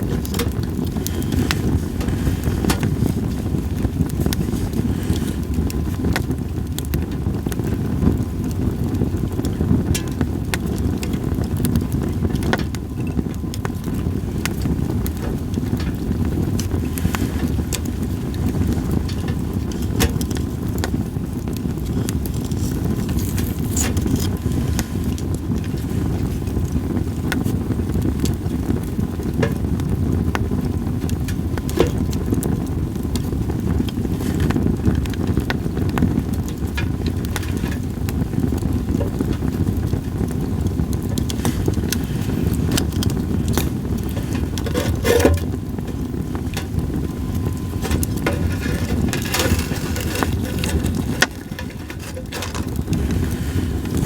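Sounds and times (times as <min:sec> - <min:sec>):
campfire crackling and popping: 0:00.0 - 0:54.0
low rumble of wind: 0:00.0 - 0:54.0.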